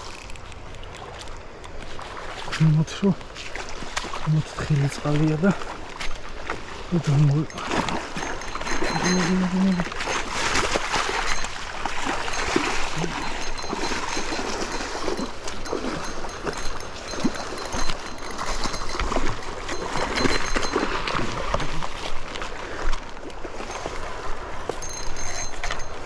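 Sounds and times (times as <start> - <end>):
river water rushing and splashing: 0.0 - 26.0.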